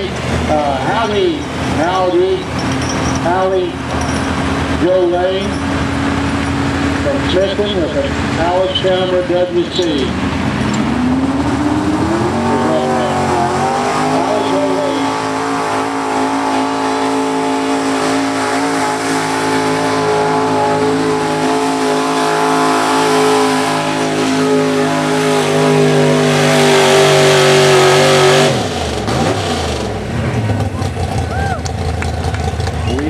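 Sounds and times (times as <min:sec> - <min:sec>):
tractor engine working under load: 0:00.0 - 0:33.0.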